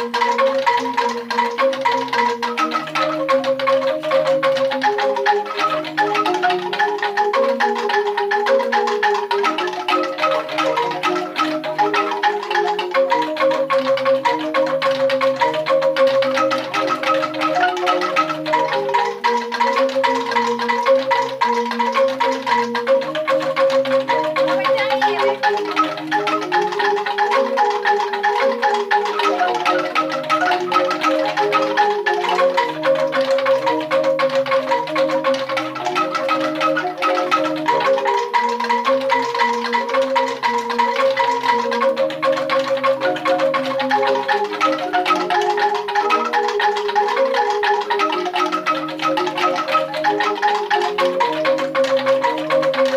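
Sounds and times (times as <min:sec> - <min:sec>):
bamboo angklung melody: 0:00.0 - 0:52.9.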